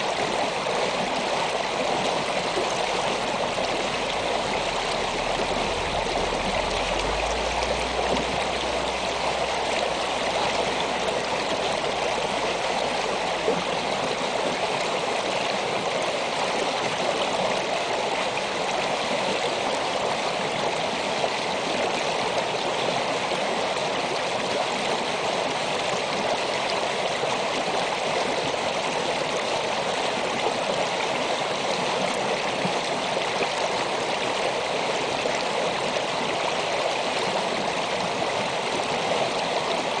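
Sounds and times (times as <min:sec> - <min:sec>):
stream babbling over rocks: 0:00.0 - 0:40.0.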